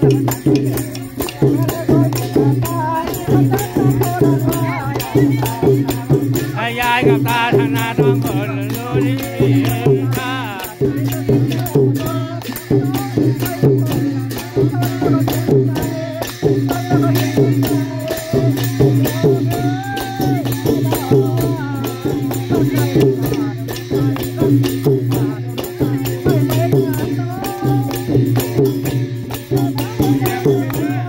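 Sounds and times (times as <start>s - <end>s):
drums beating: 0.0s - 31.0s
people singing: 0.0s - 31.0s.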